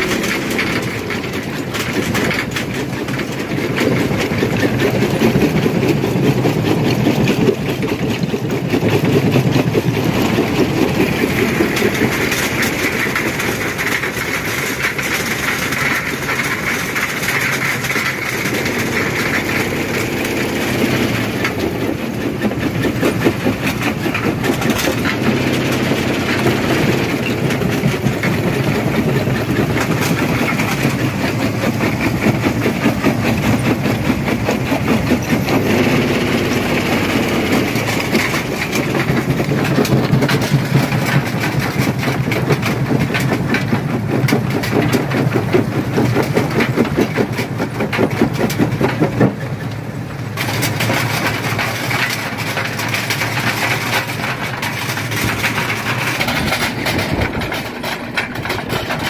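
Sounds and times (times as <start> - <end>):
rattle and crunch of rock: 0.0 - 59.0
rock crusher machine hum: 0.0 - 59.0.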